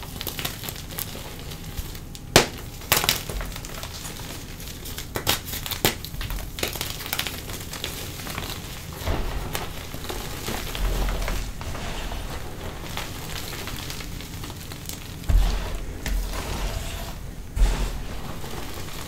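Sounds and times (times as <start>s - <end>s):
chalk crumbling: 0.0s - 19.0s
chalk cracking: 0.2s - 19.0s.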